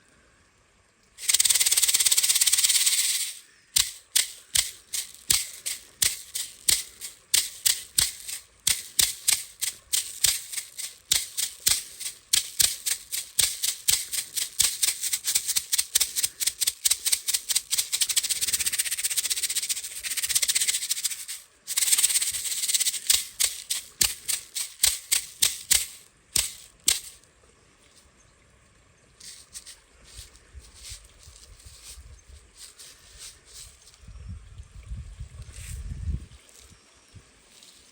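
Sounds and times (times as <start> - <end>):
rattle shaking: 1.2 - 27.2, 29.2 - 34.0.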